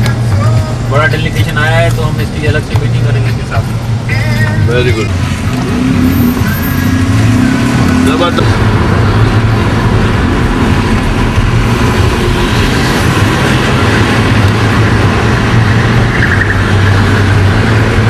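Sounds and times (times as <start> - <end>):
tyre road noise: 0.0 - 18.0
van engine drone: 0.0 - 18.0.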